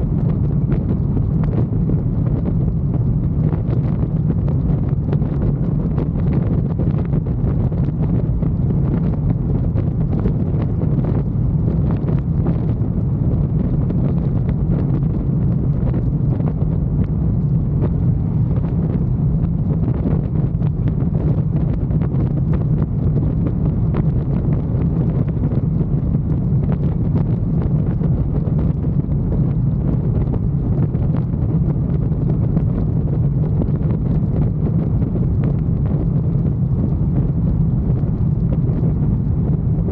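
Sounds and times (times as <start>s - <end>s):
wind blasting over microphone: 0.0s - 39.9s.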